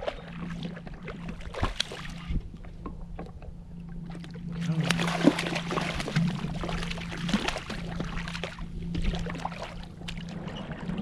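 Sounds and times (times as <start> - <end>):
steady low hum: 0.0 - 11.0
water splashing against kayak hull: 0.0 - 11.0.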